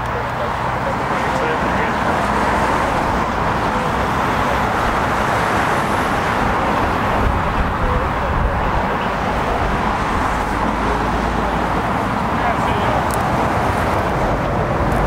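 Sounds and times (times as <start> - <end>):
jet engines whooshing: 0.0 - 15.0
road traffic roar: 0.0 - 15.0.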